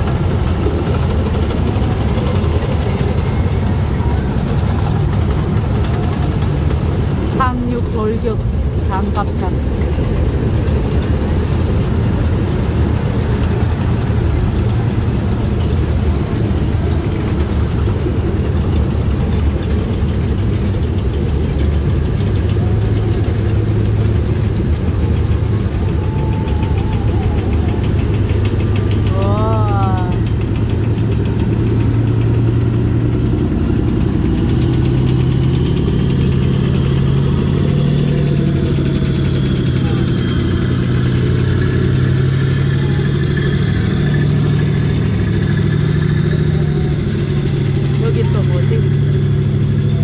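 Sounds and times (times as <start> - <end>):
tracked vehicles driving past: 0.0 - 50.0.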